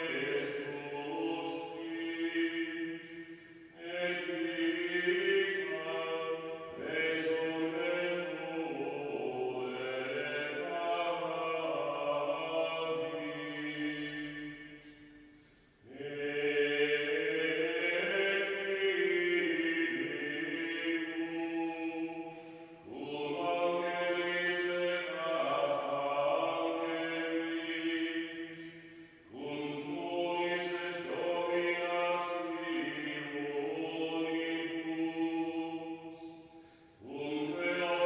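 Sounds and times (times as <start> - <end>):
low voice chanting: 0.0 - 15.3, 15.9 - 38.0.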